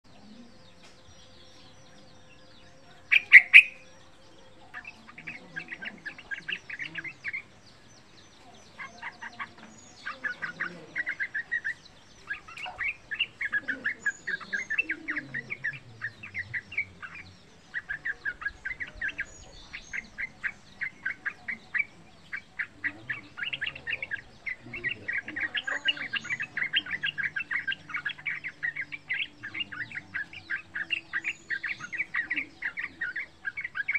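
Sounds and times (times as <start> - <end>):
bird chattering calls: 3.0 - 33.9.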